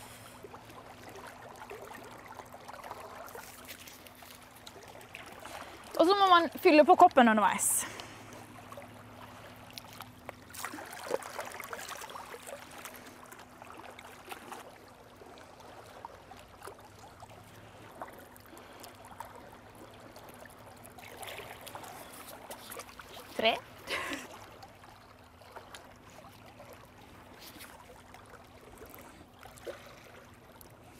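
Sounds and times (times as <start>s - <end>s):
water lapping among rocks: 0.0s - 30.9s.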